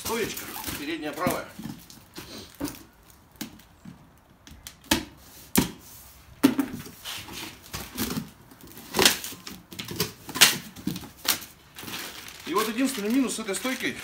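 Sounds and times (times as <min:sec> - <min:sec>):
packaging rustling: 0:00.0 - 0:04.2, 0:06.8 - 0:14.0.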